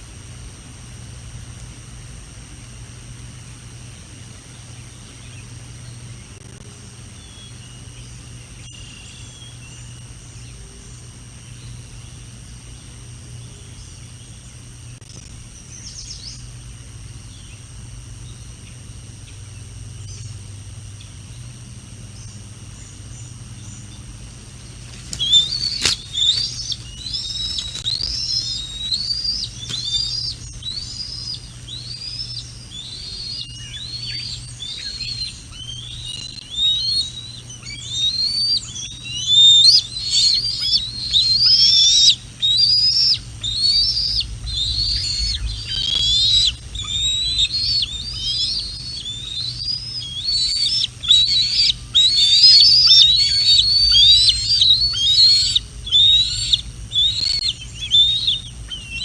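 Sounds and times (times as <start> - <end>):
faint bird calls: 1.6 - 59.0
eagle chirping calls: 4.1 - 16.7, 22.1 - 59.0.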